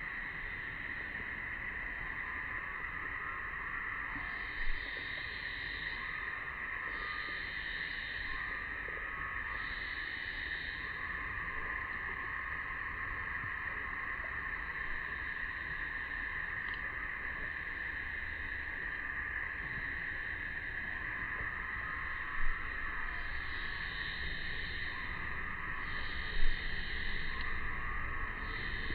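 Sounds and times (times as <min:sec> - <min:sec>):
cicadas droning: 0:00.0 - 0:28.9.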